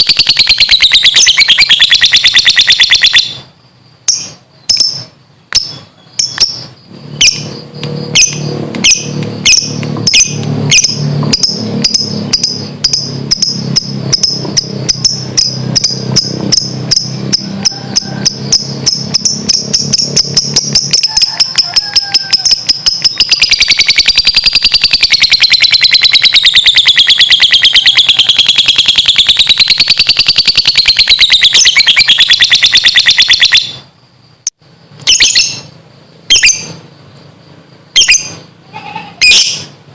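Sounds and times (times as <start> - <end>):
bird chirping and trilling: 0.0 - 33.9, 35.0 - 36.8, 37.9 - 39.8.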